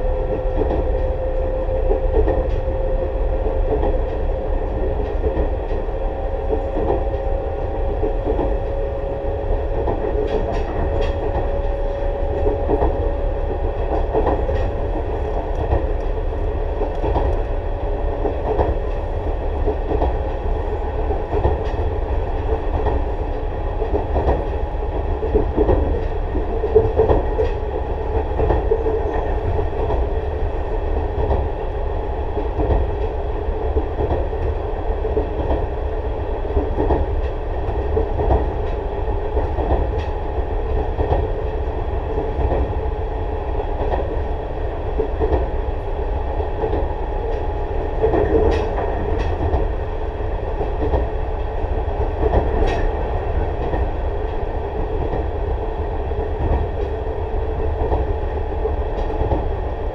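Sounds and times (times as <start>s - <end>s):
electric train rumble: 0.0s - 59.9s.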